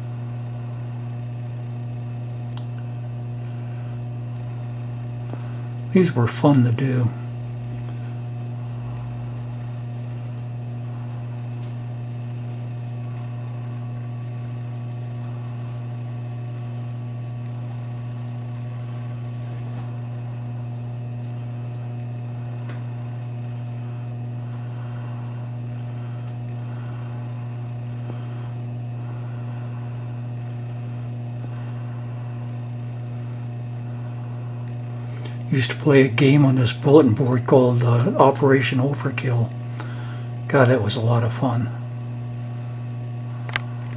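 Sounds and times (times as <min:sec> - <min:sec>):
faint high whine: 0:00.0 - 0:43.9
low electrical hum: 0:00.0 - 0:43.9.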